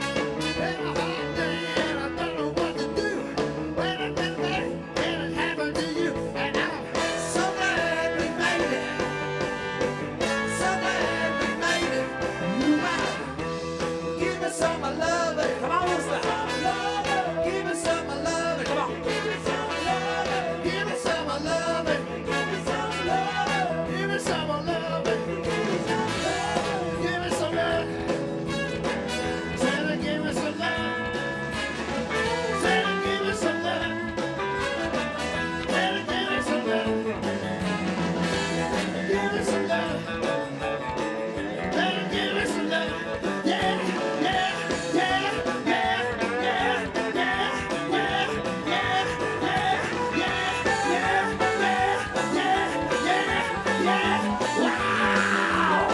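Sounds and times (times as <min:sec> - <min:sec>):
person singing: 0:00.0 - 0:28.4, 0:29.2 - 0:31.3, 0:32.2 - 0:55.9
electric guitar: 0:00.0 - 0:55.9
rock blues band playing: 0:00.0 - 0:55.9.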